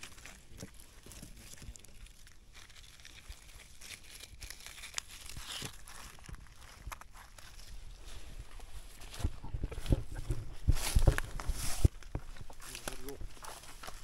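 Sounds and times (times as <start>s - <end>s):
leaf litter rustling and crackling: 0.0s - 14.0s.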